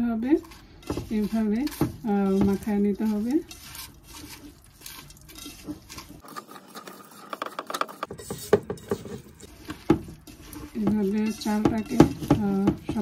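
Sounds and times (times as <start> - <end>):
grains rustling against a pot: 0.0 - 13.0.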